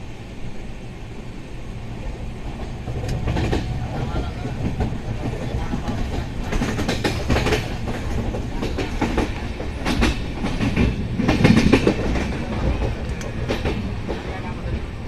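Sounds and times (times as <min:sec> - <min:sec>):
train wheels rumbling on rails: 0:00.0 - 0:15.0
wheels clacking over track joints: 0:02.6 - 0:14.9.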